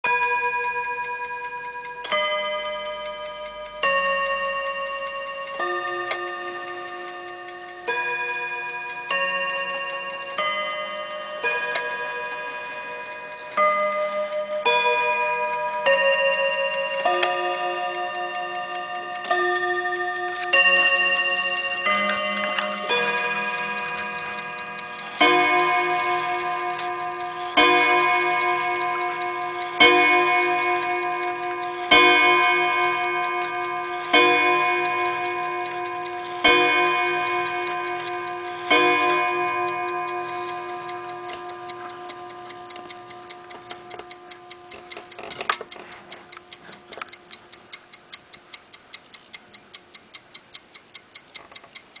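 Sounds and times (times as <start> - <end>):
clock striking on gong rods: 0.0 - 46.8
clock ticking: 0.0 - 52.0.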